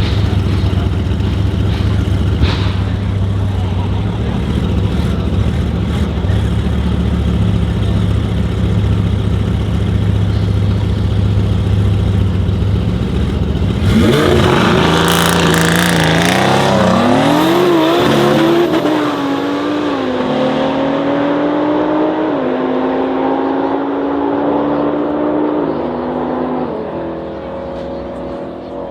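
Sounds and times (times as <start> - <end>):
car engine rumbling and accelerating: 0.0 - 28.9.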